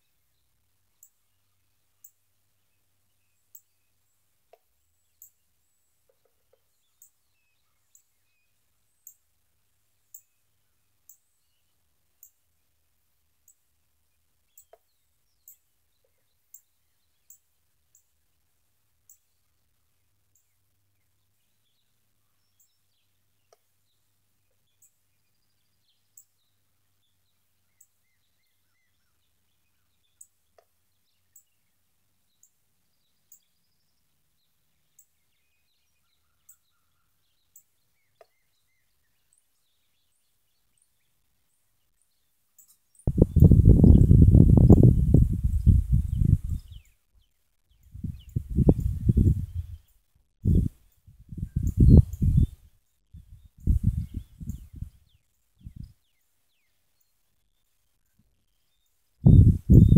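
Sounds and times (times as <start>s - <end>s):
faint bird chirps: 0.0s - 59.9s.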